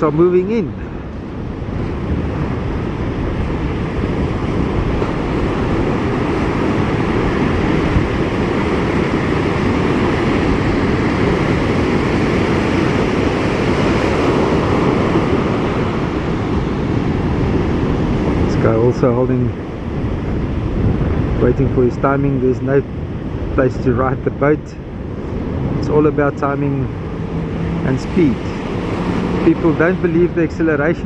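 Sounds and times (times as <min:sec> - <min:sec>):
ocean surf breaking: 0:00.0 - 0:31.0
wind noise on microphone: 0:00.0 - 0:31.0.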